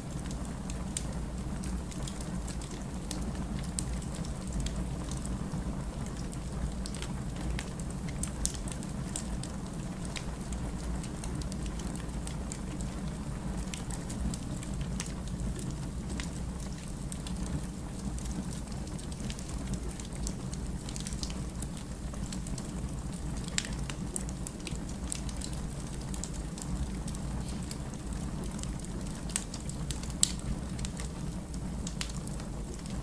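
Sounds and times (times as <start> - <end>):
fire crackling: 0.0 - 33.0.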